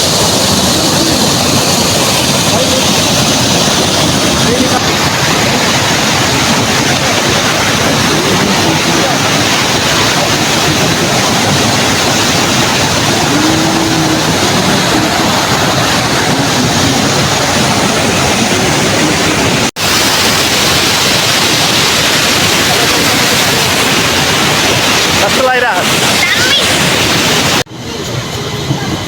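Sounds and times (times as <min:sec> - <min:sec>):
fast-flowing river rushing: 0:00.0 - 0:27.8.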